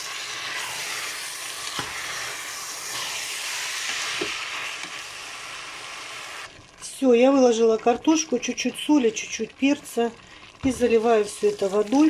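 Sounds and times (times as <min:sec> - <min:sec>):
food sizzling in cooker bowl: 0:00.0 - 0:12.0.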